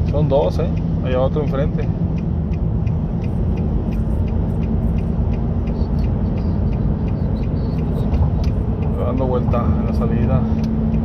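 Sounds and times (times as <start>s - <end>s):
faint regular ticking: 0.0s - 11.0s
vehicle engine and road rumble: 0.0s - 11.0s.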